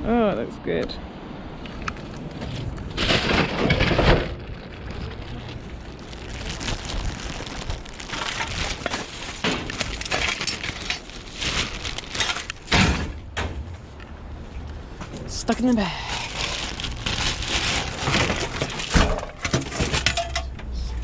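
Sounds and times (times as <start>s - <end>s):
scrap rustling and clattering: 1.8s - 14.0s, 15.0s - 21.0s.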